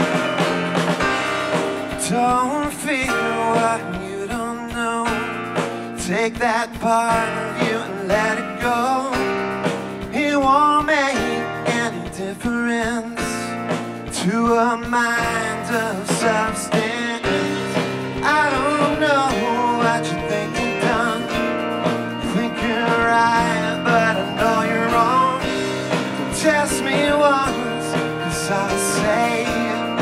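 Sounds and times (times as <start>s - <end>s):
bass: 0.0s - 30.0s
drums: 0.0s - 30.0s
electric guitar: 0.0s - 30.0s
stage piano: 0.0s - 30.0s
man singing lead: 1.8s - 30.0s.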